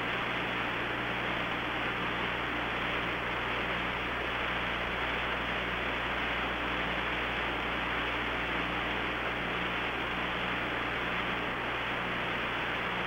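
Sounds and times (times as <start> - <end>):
faint low hum: 0.0 - 13.0
radio channel hiss: 0.0 - 13.0.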